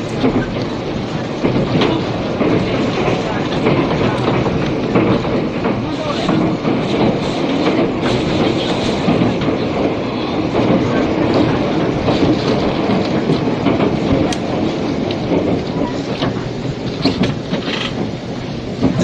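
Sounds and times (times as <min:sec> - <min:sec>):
train rumbling under way: 0:00.0 - 0:19.0
wheels clicking over rail joints: 0:00.0 - 0:19.0.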